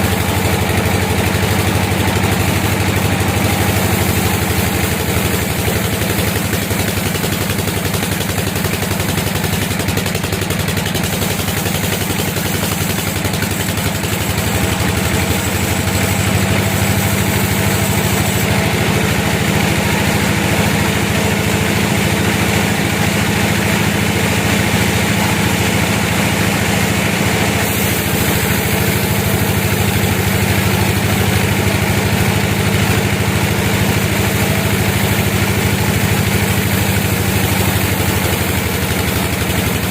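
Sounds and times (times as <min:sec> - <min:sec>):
sawmill machinery motor hum: 0:00.0 - 0:39.9.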